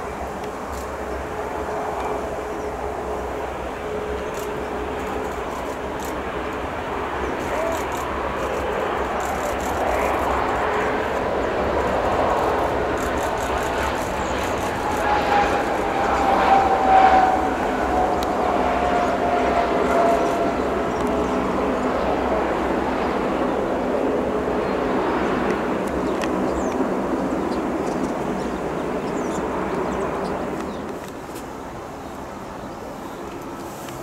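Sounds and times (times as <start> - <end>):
jet engines spooling down: 0.1 - 34.0.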